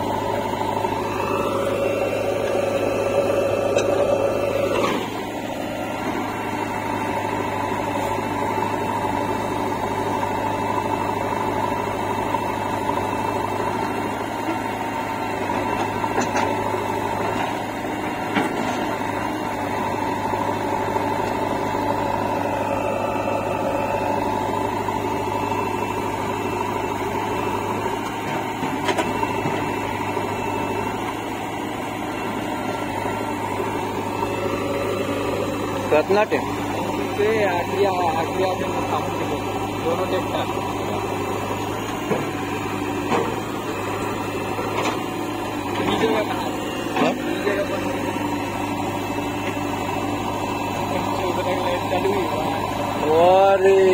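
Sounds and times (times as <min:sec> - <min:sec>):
diesel engines droning: 0:00.0 - 0:53.9.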